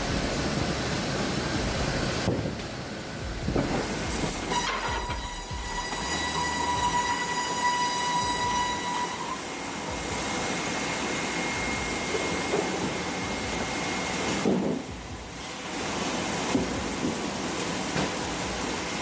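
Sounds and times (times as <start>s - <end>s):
noisy background: 0.0s - 19.0s
sawmill machinery whine: 2.9s - 19.0s.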